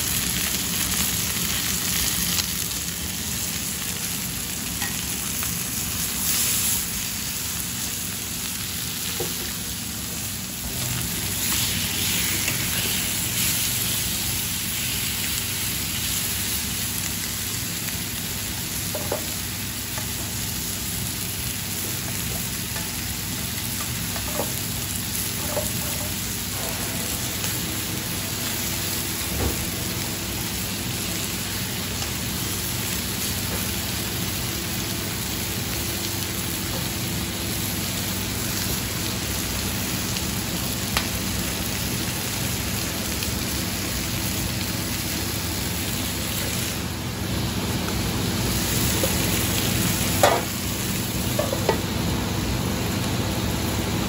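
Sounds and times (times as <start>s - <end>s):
chicken sizzling in frying pans: 0.0s - 54.0s.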